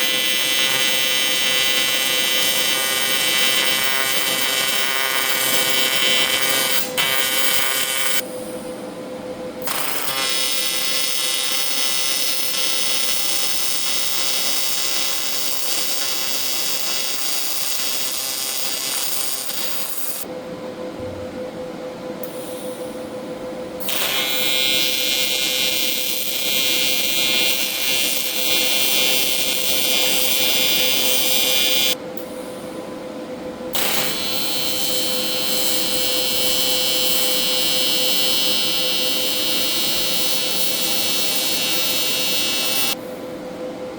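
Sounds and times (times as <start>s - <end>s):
welding arc hissing: 0.0s - 8.2s, 9.6s - 20.2s, 23.8s - 32.0s, 33.8s - 43.0s.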